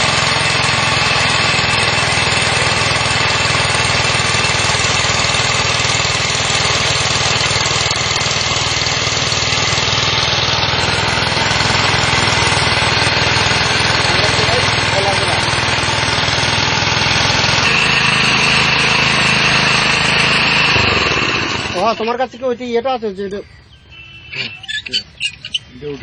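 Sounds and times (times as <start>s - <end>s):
core drill motor drone: 0.0s - 22.4s
drill grinding into concrete: 0.0s - 22.4s.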